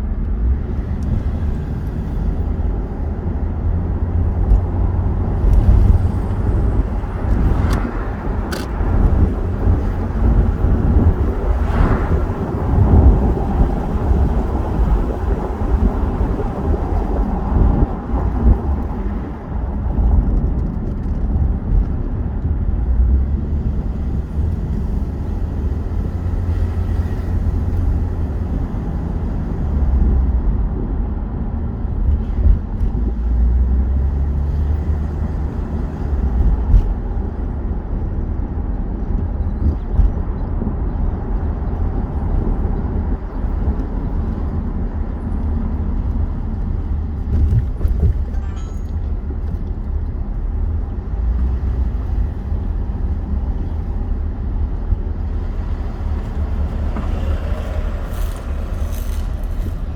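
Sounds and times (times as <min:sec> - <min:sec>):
car tyre and engine rumble: 0:00.0 - 0:59.9.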